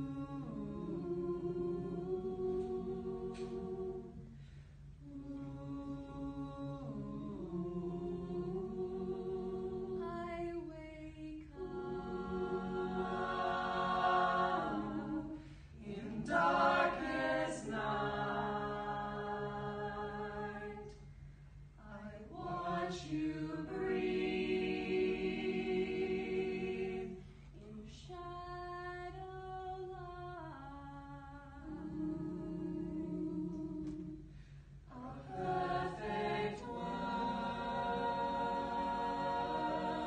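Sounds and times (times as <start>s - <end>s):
a cappella ensemble singing: 0.0s - 40.0s.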